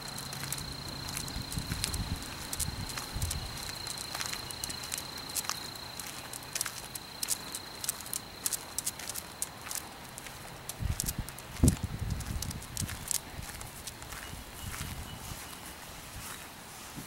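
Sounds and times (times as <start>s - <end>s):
footsteps on asphalt: 0.0s - 17.0s.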